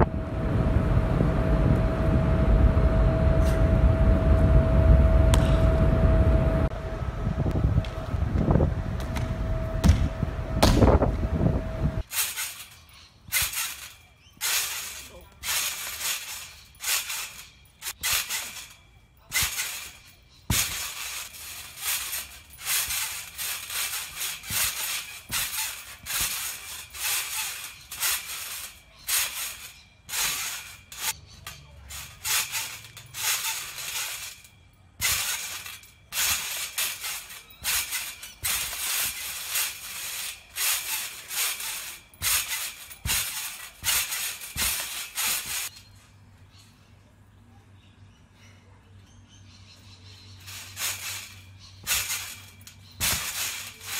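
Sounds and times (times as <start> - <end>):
trampoline springs bouncing: 0.0 - 46.8, 49.8 - 53.9.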